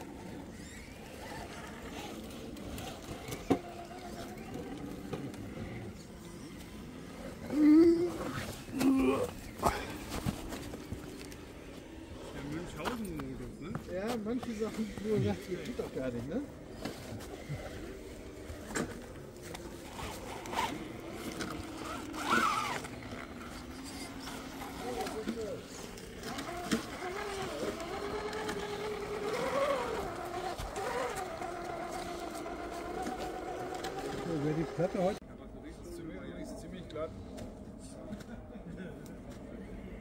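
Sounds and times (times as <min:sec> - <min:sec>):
electric motor and gearbox whirring: 0:00.0 - 0:35.2.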